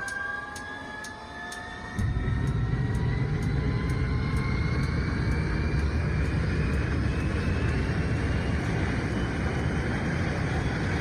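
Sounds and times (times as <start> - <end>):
turbine whine: 0.0 - 11.0
jet engine rumble: 1.8 - 11.0.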